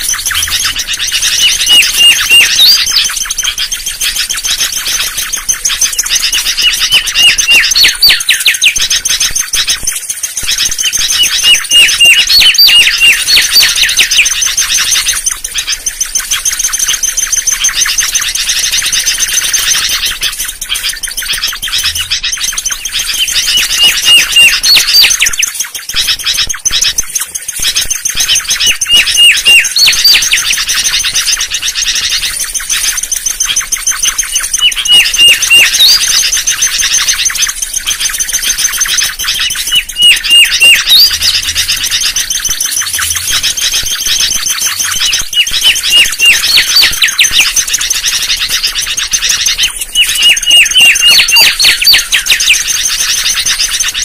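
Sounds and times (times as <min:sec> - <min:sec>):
bird singing whistled notes: 0:00.0 - 0:54.0.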